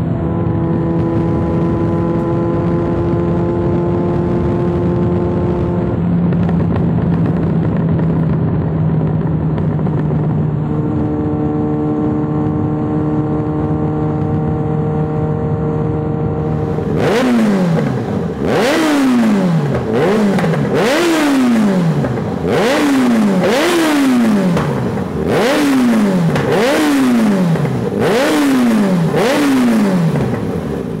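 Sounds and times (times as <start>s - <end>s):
motorcycle engine idling and revving: 0.0s - 31.0s
exhaust crackles and pops: 0.4s - 15.2s, 16.3s - 31.0s.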